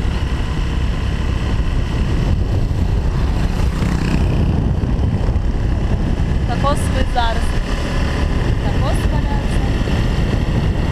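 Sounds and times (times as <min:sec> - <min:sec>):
small motorbike engine running: 0:00.0 - 0:10.9
wind and road noise: 0:00.0 - 0:10.9.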